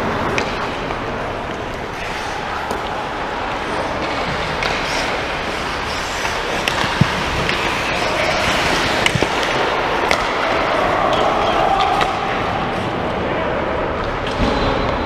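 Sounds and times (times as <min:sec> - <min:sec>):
skates scraping on ice: 0:00.0 - 0:12.9
hockey sticks and puck clacking: 0:00.0 - 0:13.2.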